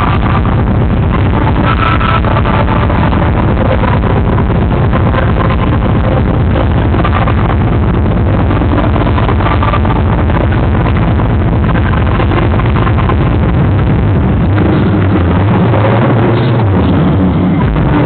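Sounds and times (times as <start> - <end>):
distorted hip-hop dance music: 0.0 - 18.0.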